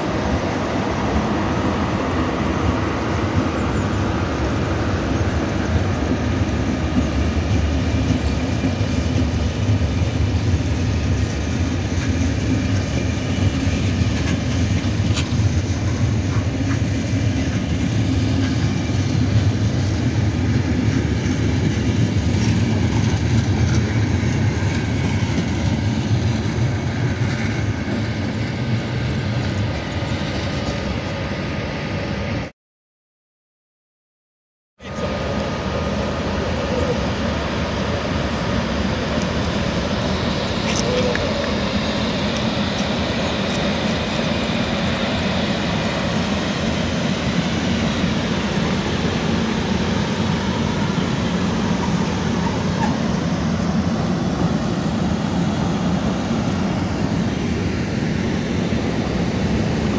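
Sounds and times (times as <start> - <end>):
train wheels rumbling on rail: 0.0 - 32.5, 34.8 - 59.9.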